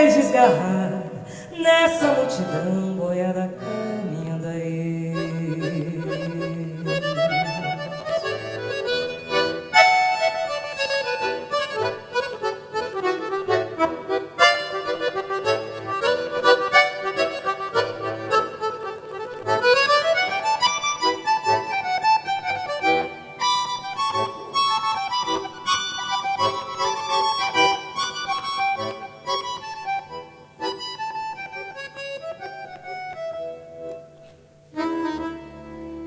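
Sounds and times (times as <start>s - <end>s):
accordion playing melody: 0.0s - 36.0s.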